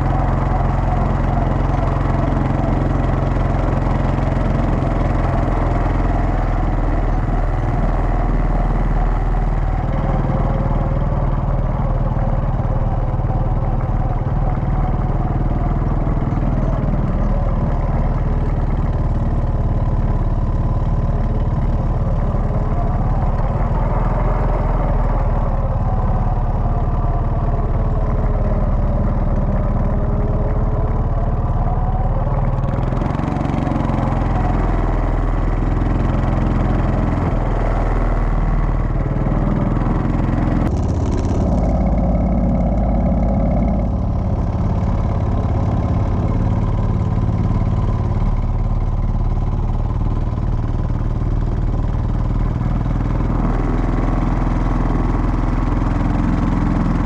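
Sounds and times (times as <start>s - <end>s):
quad bike engines revving: 0.0s - 57.0s.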